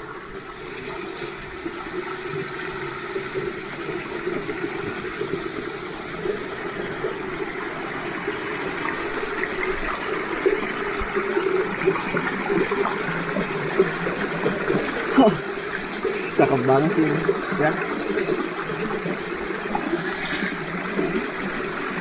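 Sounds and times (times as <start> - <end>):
stream trickling over stones: 0.0 - 22.0.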